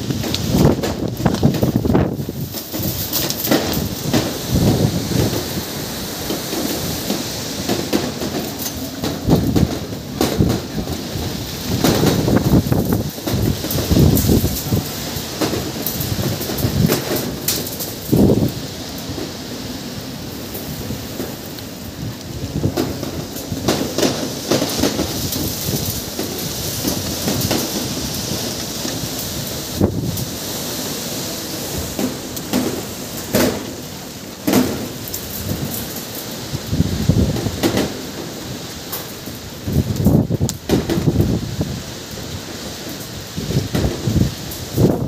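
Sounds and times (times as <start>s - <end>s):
strong gusting wind on microphone: 0.0s - 45.0s.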